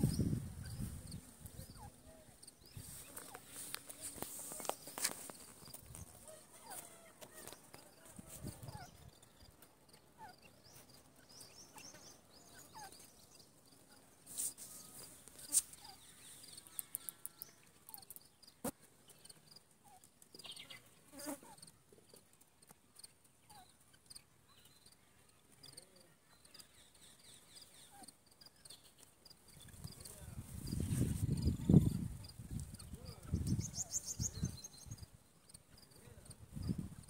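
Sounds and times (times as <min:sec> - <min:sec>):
faint bird chirps: 0:00.0 - 0:37.0.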